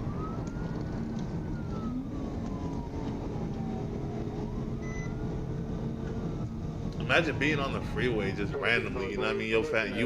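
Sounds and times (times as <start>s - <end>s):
engine and road noise rumble: 0.0s - 10.0s
police siren wailing: 0.0s - 10.0s.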